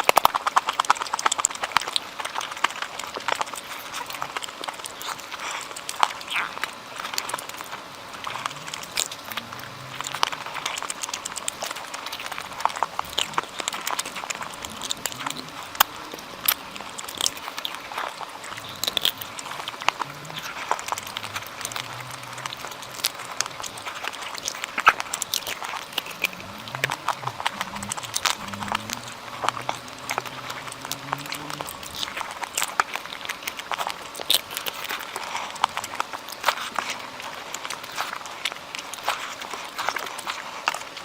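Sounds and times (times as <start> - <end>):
person chewing food: 0.0 - 41.0.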